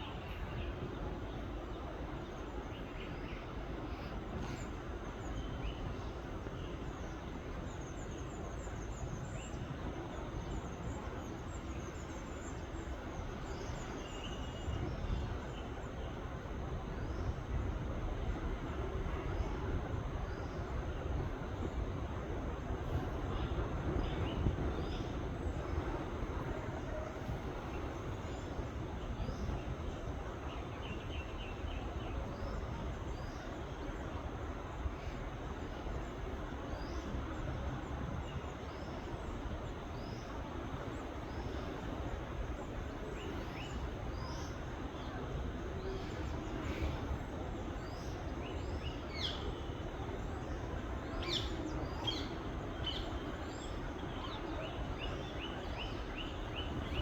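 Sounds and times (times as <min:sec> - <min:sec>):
low background noise: 0:00.0 - 0:57.0.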